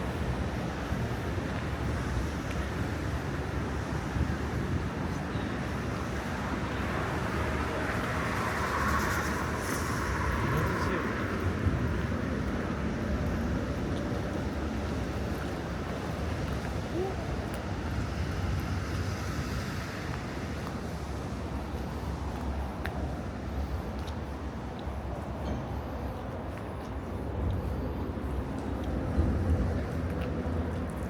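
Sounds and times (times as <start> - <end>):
city traffic rumble: 0.0 - 31.0.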